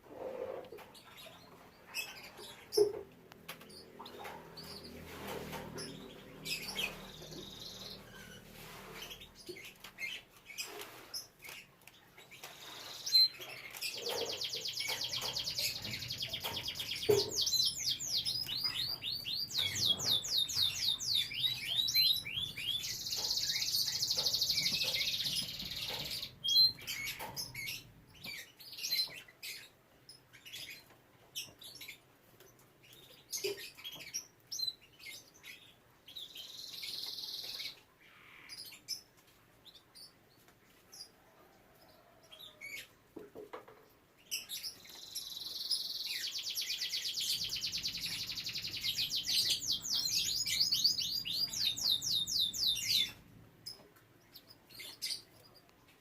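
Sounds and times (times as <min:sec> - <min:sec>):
canary chirping and trilling: 0:00.1 - 0:43.0, 0:43.6 - 0:56.0.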